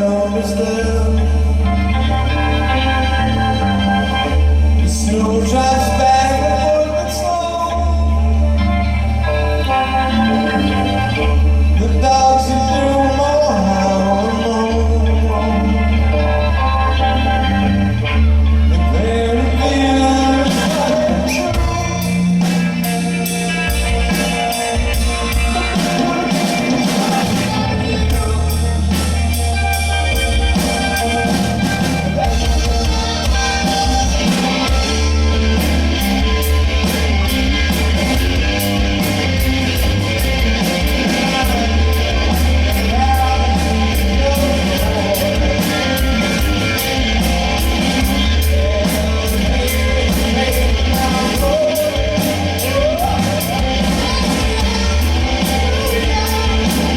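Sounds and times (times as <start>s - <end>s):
heavy bass line: 0.0s - 56.9s
person singing: 0.0s - 56.9s
rock band playing: 0.0s - 56.9s.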